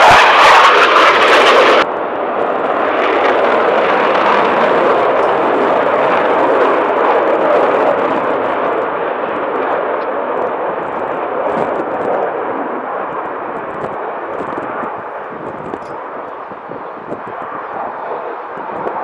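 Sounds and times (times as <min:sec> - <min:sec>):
jet flying past: 0:00.0 - 0:19.0.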